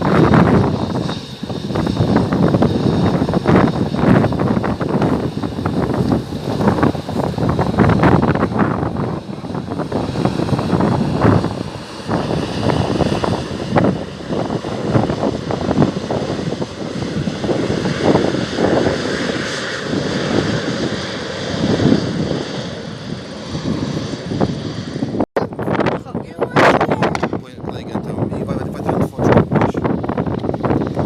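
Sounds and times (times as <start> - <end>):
jet engines whining: 0.0 - 31.0
wind buffeting microphone: 0.0 - 31.0.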